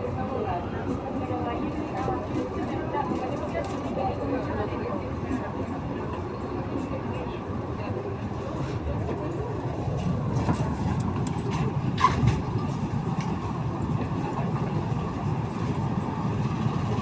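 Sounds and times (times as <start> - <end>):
metro train rumbling: 0.0 - 17.0.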